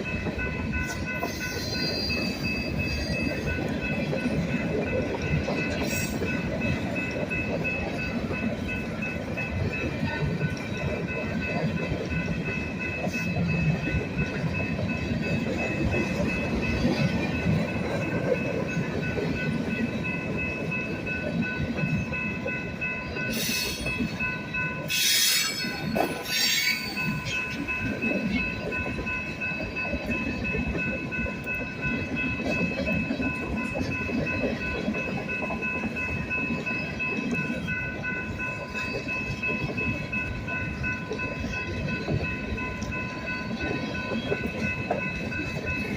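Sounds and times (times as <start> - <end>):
steady high-pitched tones: 0.0 - 45.9
train cars rumbling and clattering: 0.0 - 45.9.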